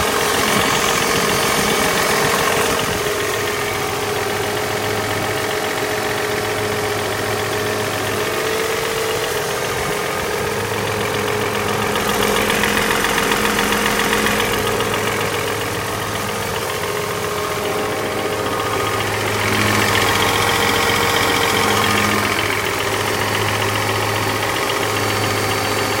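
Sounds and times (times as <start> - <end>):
car engine idling with knock: 0.0 - 26.0.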